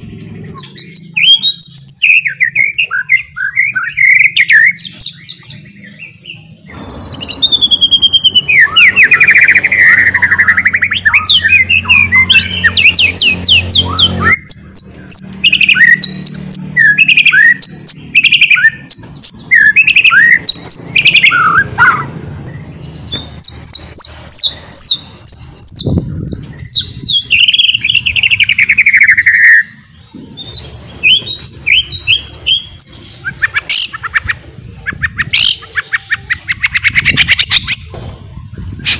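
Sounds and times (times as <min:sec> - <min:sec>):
songbird singing fast varied song: 0:00.3 - 0:21.8, 0:22.4 - 0:37.9.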